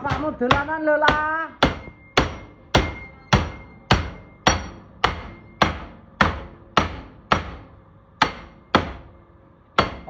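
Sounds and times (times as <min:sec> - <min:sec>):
hammer striking metal grill: 0:00.0 - 0:10.0.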